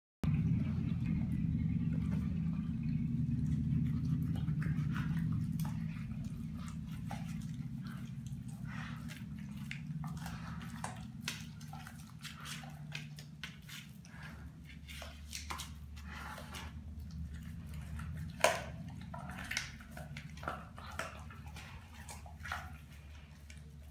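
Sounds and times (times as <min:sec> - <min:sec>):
dog chewing and crunching fish: 0:00.2 - 0:23.9
low hum: 0:00.2 - 0:23.9.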